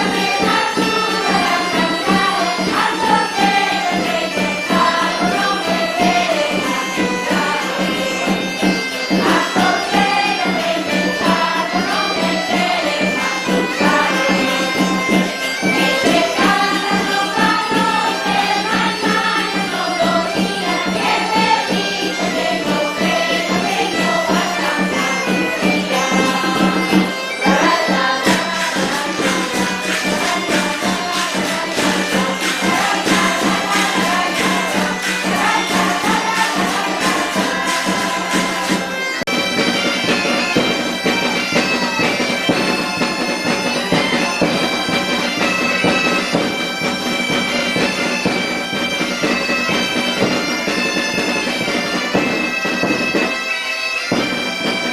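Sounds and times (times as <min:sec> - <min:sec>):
bagpipe drone: 0:00.0 - 0:54.9
bagpipe music: 0:00.0 - 0:54.9.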